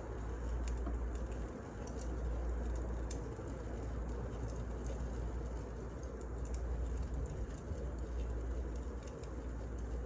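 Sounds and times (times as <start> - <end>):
fire crackles: 0.0 - 10.0
flames rushing in fireplace: 0.0 - 10.0.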